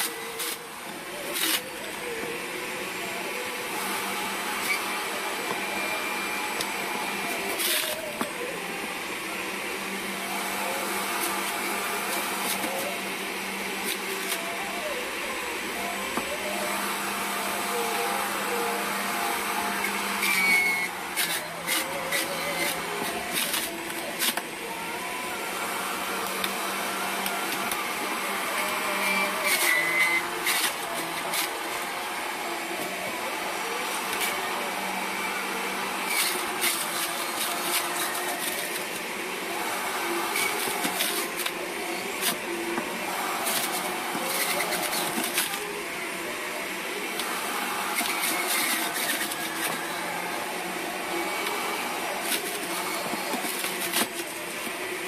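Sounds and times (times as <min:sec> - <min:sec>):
juicer motor whirring: 0:00.0 - 0:55.0.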